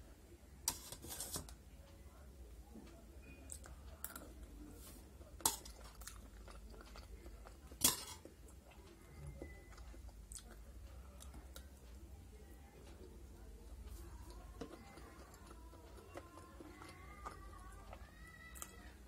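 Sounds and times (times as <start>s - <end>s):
soft chewing: 0.7s - 19.0s.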